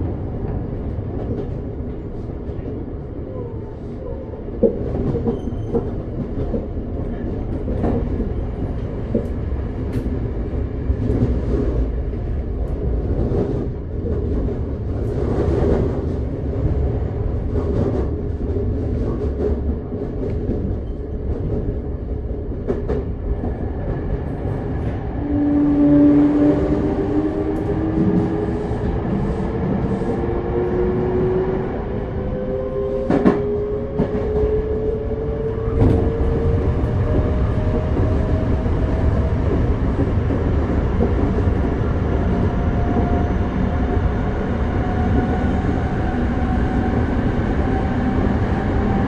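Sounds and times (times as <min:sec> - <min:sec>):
train car rumbling: 0:00.0 - 0:49.0.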